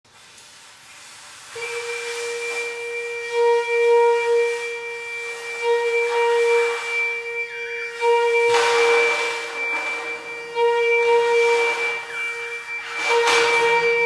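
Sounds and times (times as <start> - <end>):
long steady instrument note: 1.5 - 14.0.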